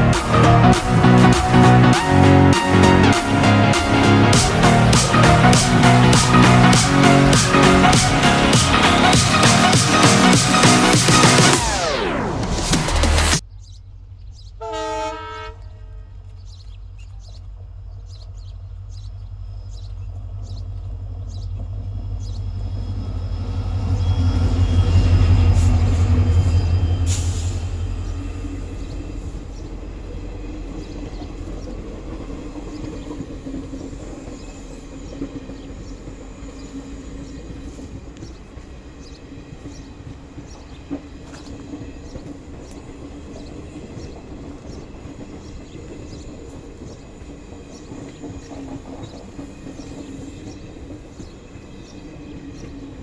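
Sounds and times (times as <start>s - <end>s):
train coaches rumbling past: 0.0s - 13.4s, 14.5s - 53.0s
diesel locomotive engine: 0.0s - 53.0s.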